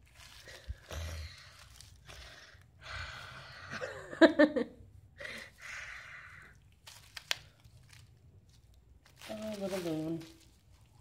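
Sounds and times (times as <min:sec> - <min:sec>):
bubble wrap crinkling: 0:00.0 - 0:03.9, 0:05.4 - 0:11.0.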